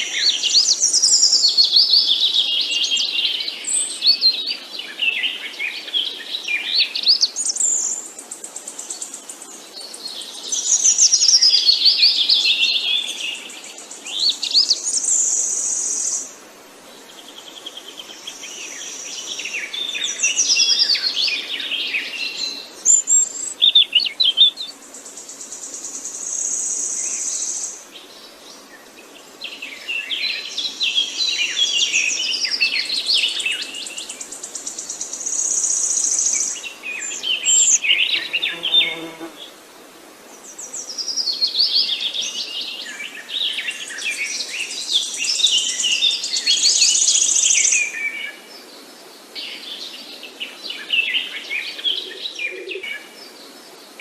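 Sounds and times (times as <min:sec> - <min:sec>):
songbirds singing and chirping: 0:00.0 - 0:39.6, 0:40.2 - 0:54.0.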